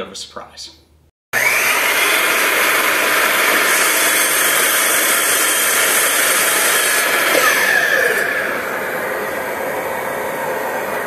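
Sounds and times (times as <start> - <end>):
miter saw motor and blade whine: 1.4 - 11.0.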